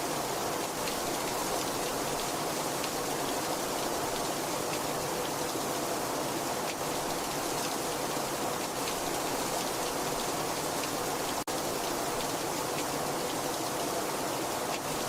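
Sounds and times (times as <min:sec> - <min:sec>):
very heavy rain: 0:00.0 - 0:15.0.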